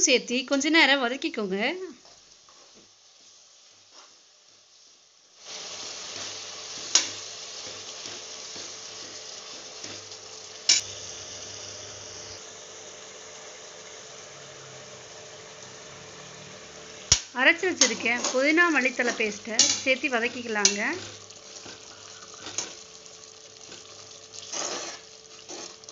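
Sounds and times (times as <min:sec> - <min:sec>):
vegetables sizzling in hot oil: 0:00.0 - 0:25.9.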